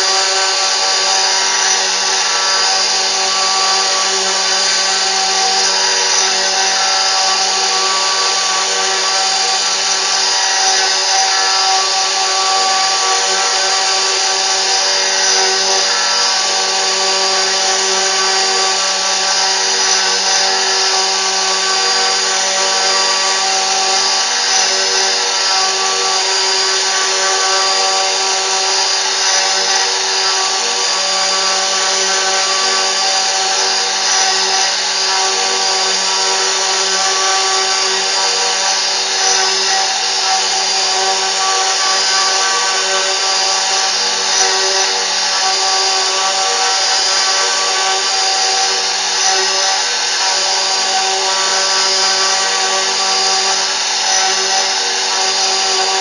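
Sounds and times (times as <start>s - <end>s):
machine spindle whining: 0.0s - 56.0s.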